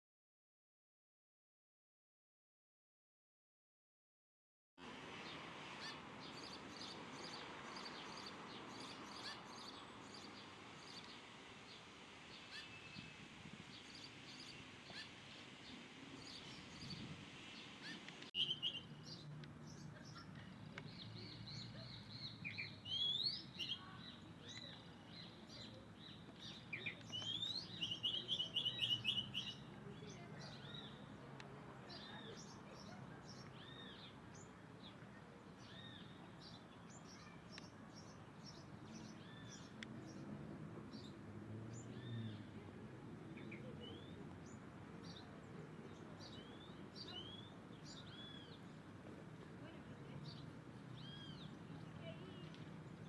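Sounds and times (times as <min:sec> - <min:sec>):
birds chirping and calling: 0:05.2 - 0:31.2, 0:31.9 - 0:40.2, 0:43.2 - 0:48.8, 0:50.0 - 0:53.0.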